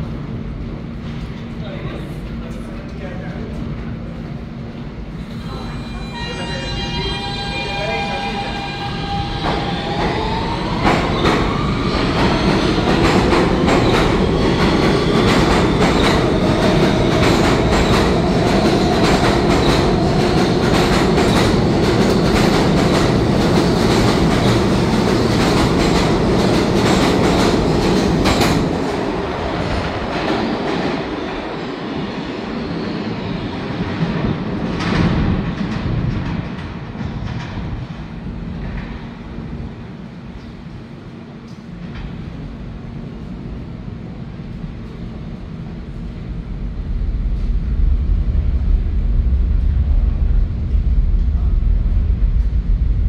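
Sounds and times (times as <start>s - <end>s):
heavy train rumble: 0.0s - 53.0s
subway train motors whining: 0.0s - 53.0s.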